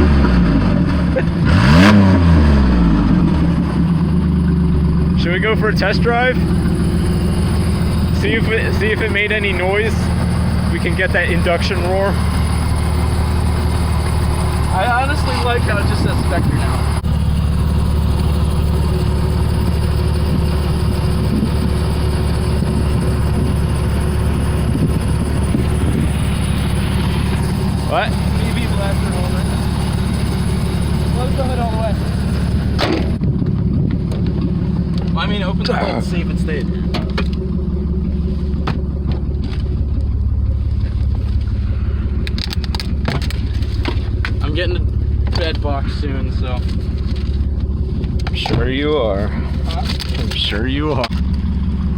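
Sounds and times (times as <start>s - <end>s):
pickup engine droning: 0.0s - 51.9s.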